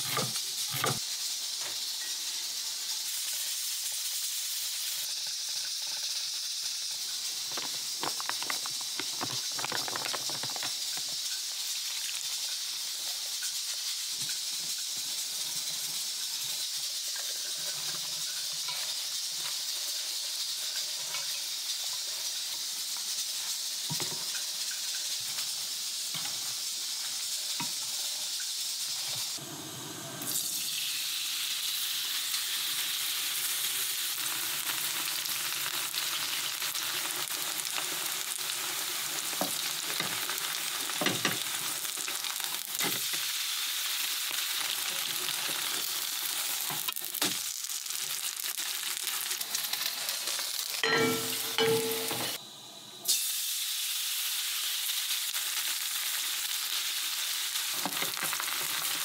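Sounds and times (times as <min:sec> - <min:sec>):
steady hiss: 0:00.0 - 0:47.4
pancake sizzling in pan: 0:00.0 - 0:59.0.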